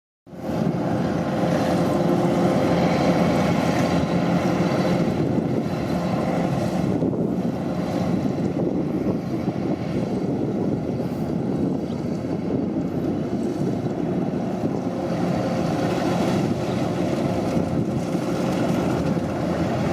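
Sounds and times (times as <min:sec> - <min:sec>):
combine harvester engine running: 0:00.3 - 0:19.9
wind noise on microphone: 0:00.3 - 0:19.9.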